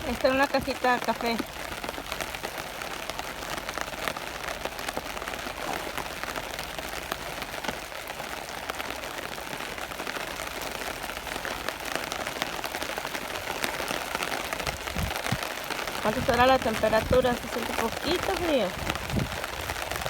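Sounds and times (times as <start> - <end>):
raindrops ticking on a surface: 0.0 - 20.0
steady rain: 0.0 - 20.0.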